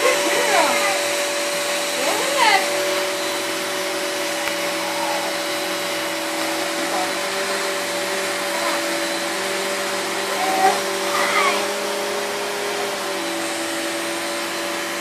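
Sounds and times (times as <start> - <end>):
vacuum cleaner humming: 0.0 - 15.0.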